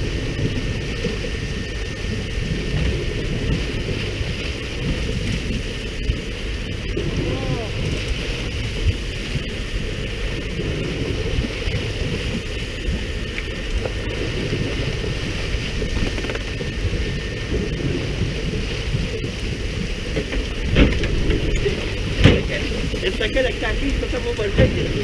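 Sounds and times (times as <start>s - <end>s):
boat engine running low: 0.0s - 25.0s
wind on microphone: 0.0s - 25.0s.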